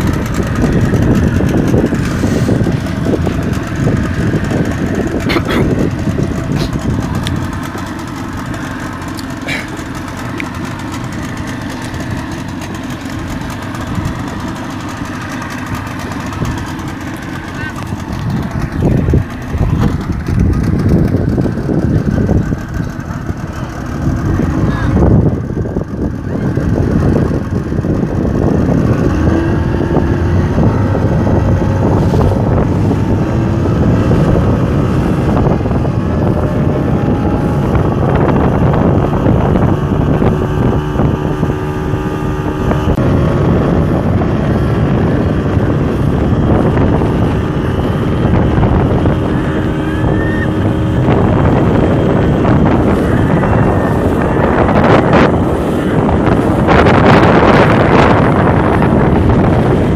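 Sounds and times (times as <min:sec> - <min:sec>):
outboard motor running: 0:00.0 - 0:59.9
wind buffeting microphone: 0:00.0 - 0:59.9.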